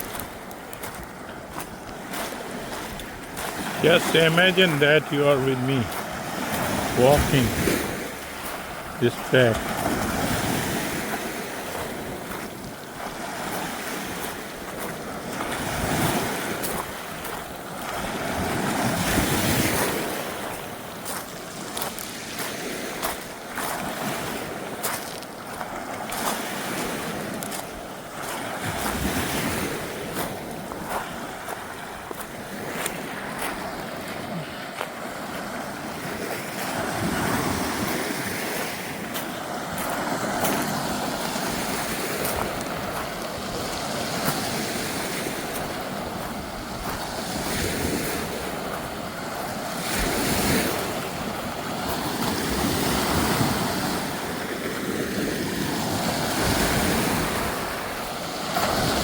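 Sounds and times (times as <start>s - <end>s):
ocean waves washing on shore: 0.0s - 59.0s.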